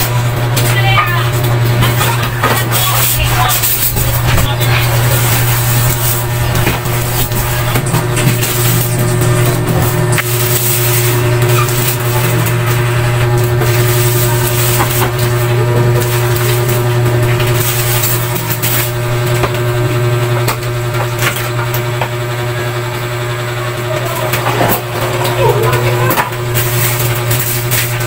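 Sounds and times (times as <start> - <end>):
steady low hum: 0.0 - 28.0
plastic wrapping rustling: 0.2 - 20.3, 23.9 - 28.0.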